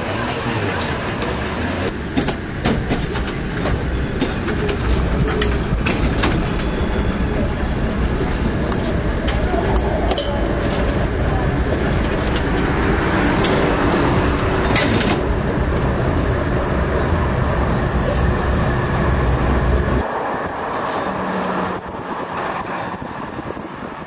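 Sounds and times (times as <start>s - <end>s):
deep rumble: 0.0s - 20.7s
tram rolling on rails: 0.0s - 24.0s.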